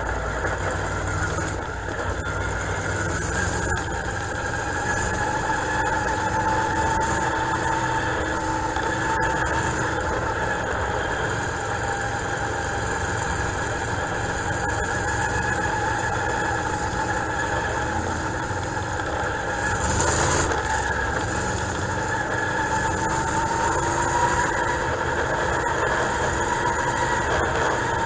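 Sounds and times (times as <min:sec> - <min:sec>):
race car engine running: 0:00.0 - 0:28.0.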